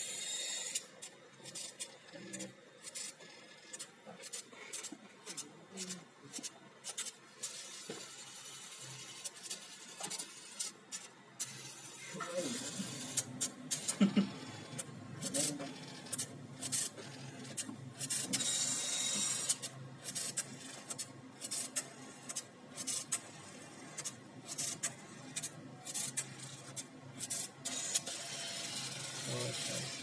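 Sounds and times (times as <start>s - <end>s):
printer whirring and clicking: 0.0s - 30.0s.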